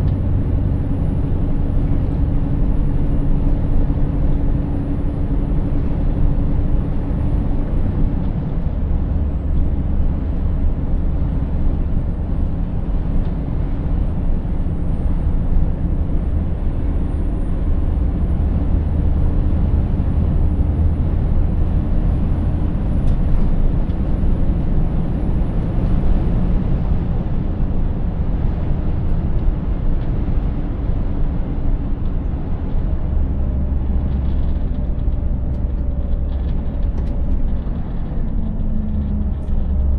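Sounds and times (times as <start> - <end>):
truck diesel engine rumble: 0.0 - 39.9
tyre and road noise: 0.0 - 39.9.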